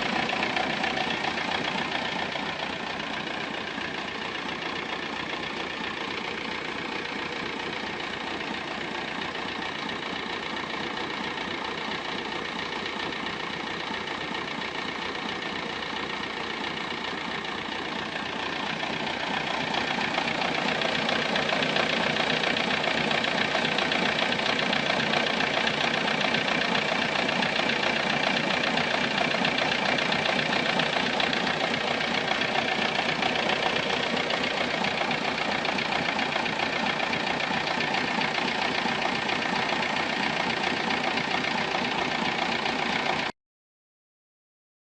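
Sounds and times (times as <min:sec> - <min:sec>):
car engine running: 0:00.0 - 0:43.3.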